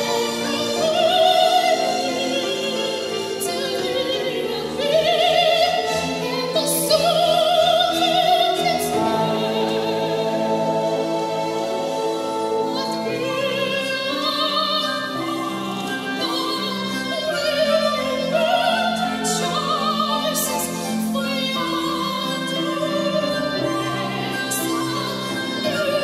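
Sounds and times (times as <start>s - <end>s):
girl singing operatic soprano: 0.0s - 11.4s, 12.6s - 26.0s
orchestral accompaniment: 0.0s - 26.0s.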